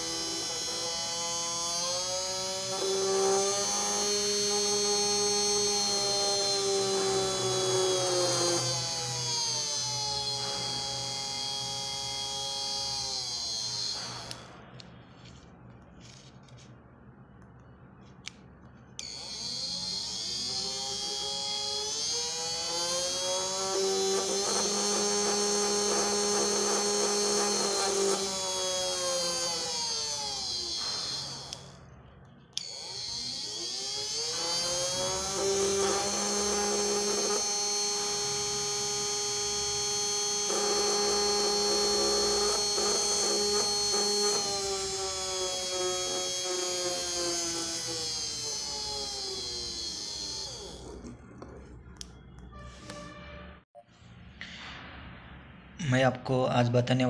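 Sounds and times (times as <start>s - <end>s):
electric motor whining: 0.0s - 14.6s, 19.0s - 31.8s, 32.6s - 52.1s.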